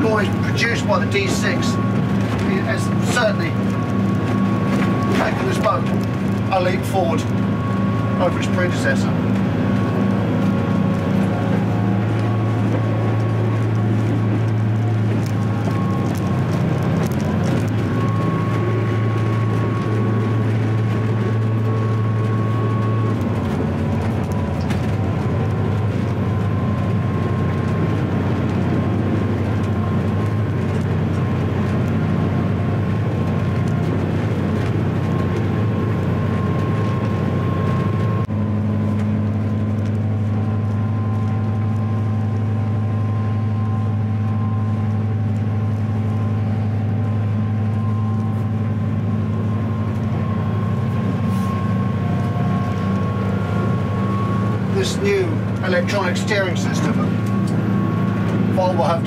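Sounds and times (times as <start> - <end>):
boat engine drone: 0.0 - 59.0.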